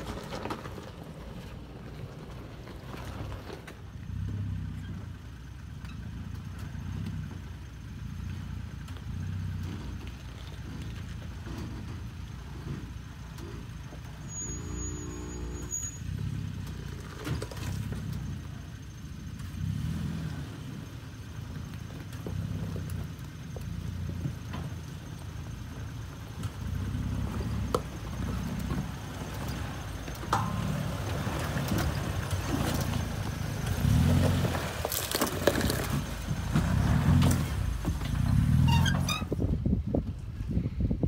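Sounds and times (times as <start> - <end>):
pickup engine at low revs: 1.6 - 41.0.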